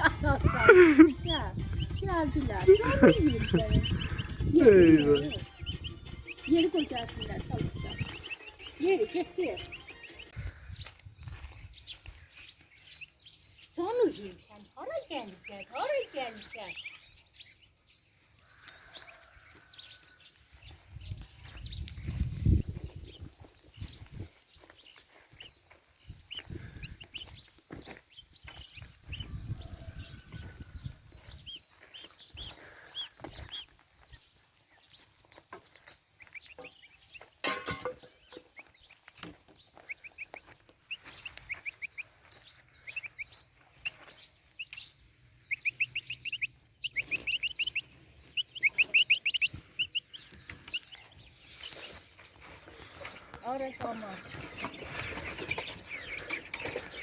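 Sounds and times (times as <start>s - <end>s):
goslings peeping: 0.0s - 57.0s.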